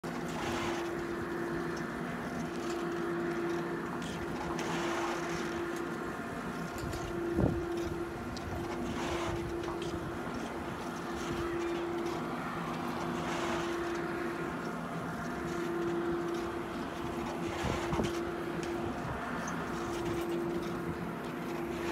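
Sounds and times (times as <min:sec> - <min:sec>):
chairlift drive machine hum: 0:00.0 - 0:21.9.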